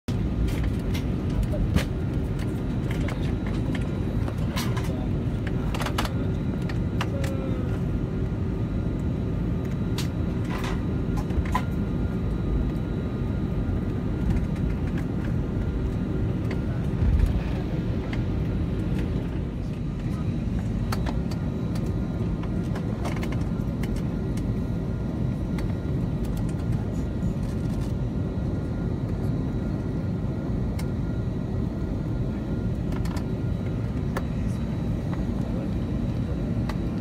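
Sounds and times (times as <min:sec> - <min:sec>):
jet engine rumble in cabin: 0:00.1 - 0:37.0.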